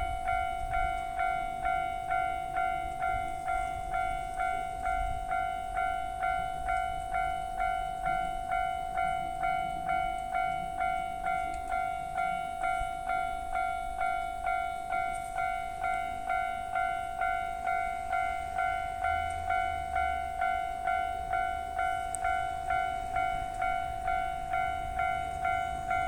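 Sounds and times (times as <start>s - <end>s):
level-crossing warning bell ringing: 0.0s - 26.0s.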